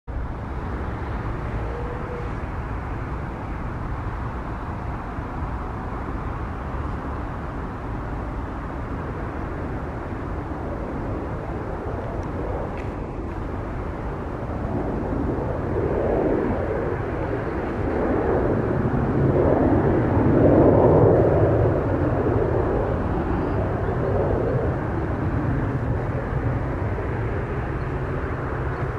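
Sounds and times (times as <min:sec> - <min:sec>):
jet engines rumbling at takeoff: 0:00.1 - 0:28.9.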